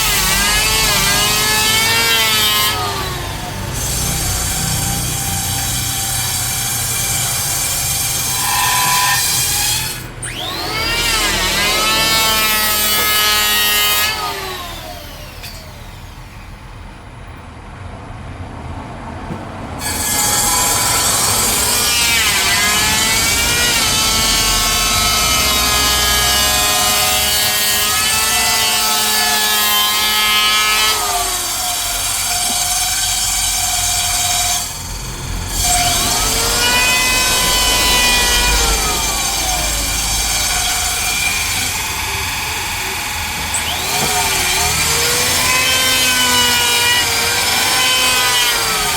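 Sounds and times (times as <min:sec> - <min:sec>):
power tool cutting wood: 0:00.0 - 0:16.5, 0:19.8 - 0:48.9.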